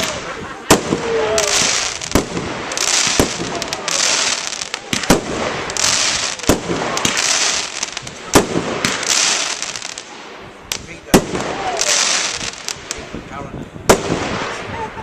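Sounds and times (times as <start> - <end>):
firework shells bursting: 0.0 - 13.1
high hissing crackle: 0.0 - 13.1.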